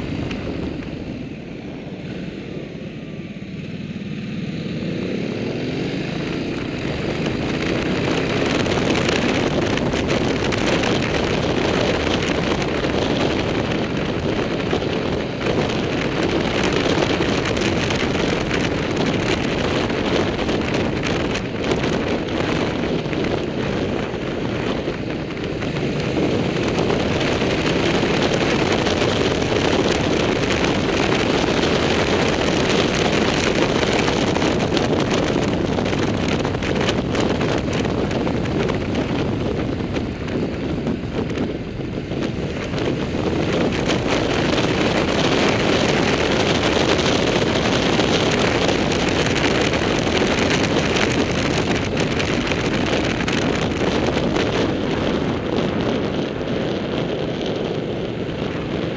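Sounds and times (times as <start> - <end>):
motorcycle running: 0.0 - 58.9
road noise: 0.0 - 58.9
wind rushing over microphone: 0.0 - 58.9.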